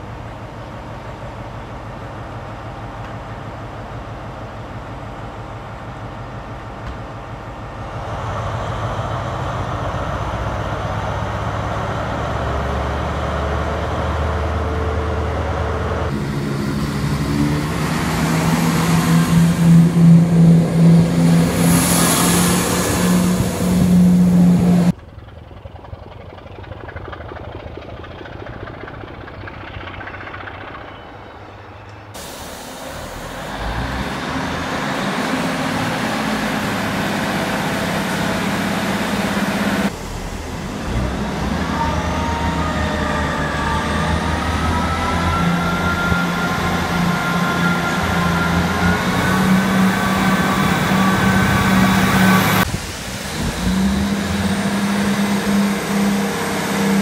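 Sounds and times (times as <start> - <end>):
diesel train accelerating: 0.0 - 57.0
diesel train engine idling: 0.0 - 57.0
diesel train engine under load: 0.0 - 57.0.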